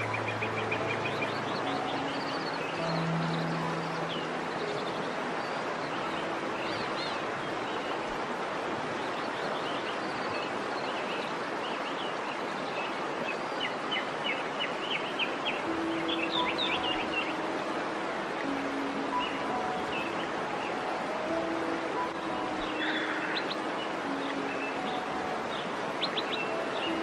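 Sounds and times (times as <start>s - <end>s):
small birds chirping: 0.0s - 8.2s, 8.9s - 27.0s
waterfall rushing: 0.0s - 27.0s.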